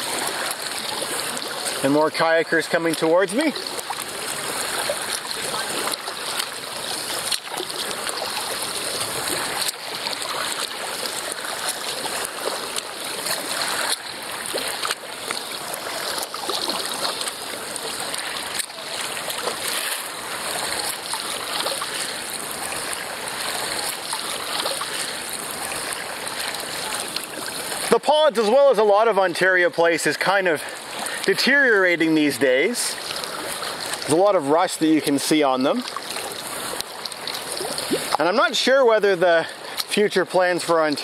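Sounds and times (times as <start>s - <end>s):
water rushing along kayak bow: 0.0s - 41.0s.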